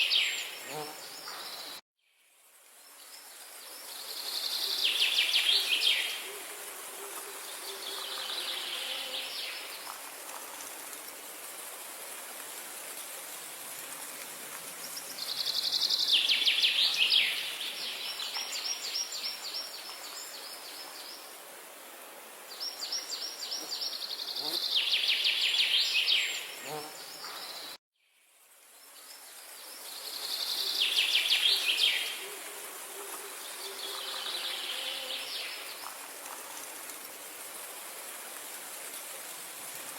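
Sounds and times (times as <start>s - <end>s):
high background hiss: 0.0s - 39.9s.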